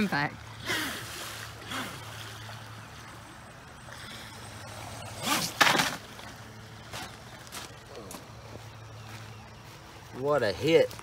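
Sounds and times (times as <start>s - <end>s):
low water wash: 0.0s - 9.0s.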